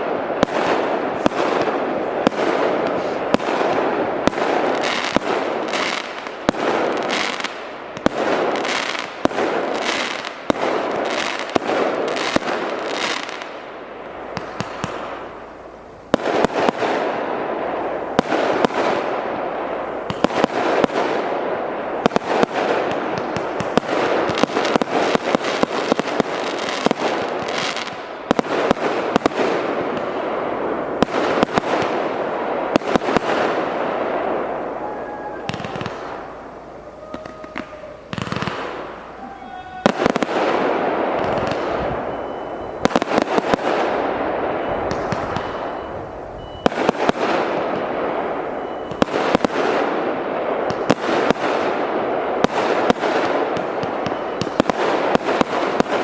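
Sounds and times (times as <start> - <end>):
fireworks crackle: 0.0 - 56.0
fireworks launching and bursting: 0.0 - 56.0.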